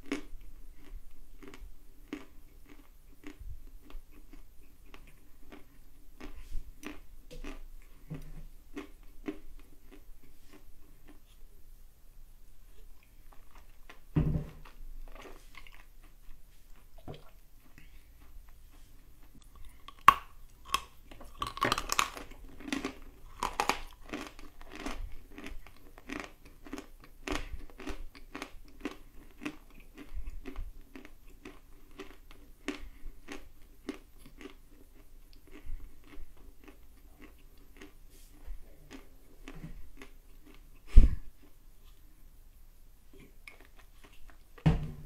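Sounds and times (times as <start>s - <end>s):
crunching and chewing: 0.0s - 11.4s, 12.7s - 42.2s, 43.1s - 44.6s.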